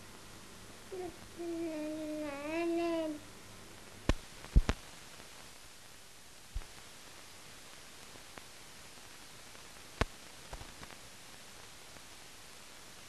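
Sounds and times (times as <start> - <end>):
old film soundtrack hiss: 0.0 - 13.0.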